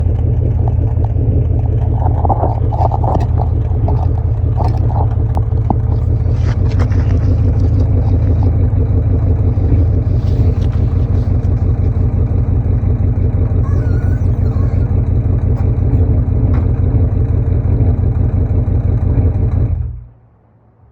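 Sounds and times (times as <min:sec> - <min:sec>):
engine running with low rumble: 0:00.0 - 0:20.9.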